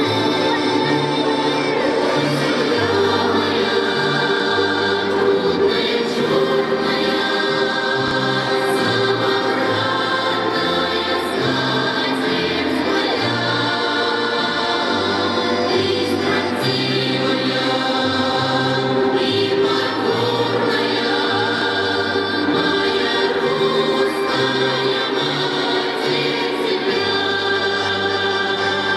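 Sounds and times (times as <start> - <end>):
folk choir singing: 0.0 - 28.9.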